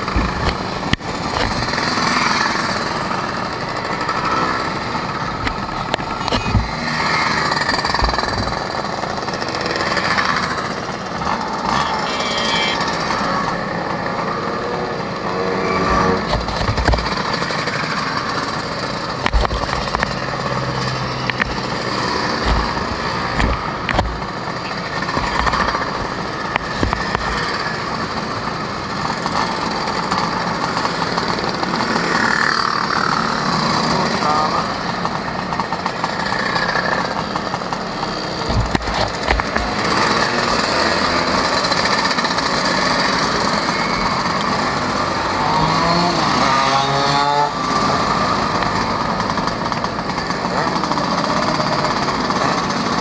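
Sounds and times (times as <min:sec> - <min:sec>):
scooter engines running: 0:00.0 - 0:53.0.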